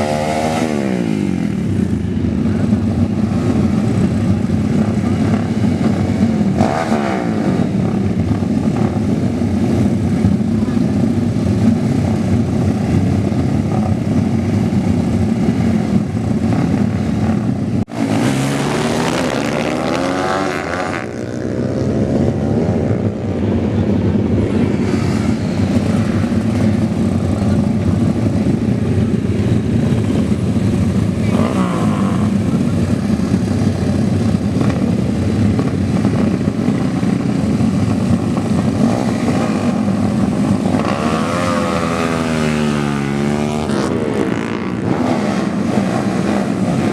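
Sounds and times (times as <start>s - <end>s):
motorcycle engines revving: 0.0s - 46.9s.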